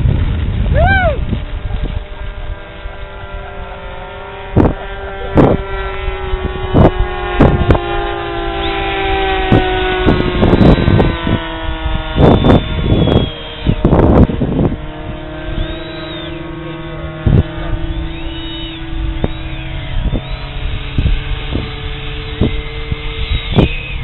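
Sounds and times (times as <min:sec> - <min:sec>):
higher whine: 0:00.0 - 0:24.0
model jet engine whine: 0:00.0 - 0:24.0.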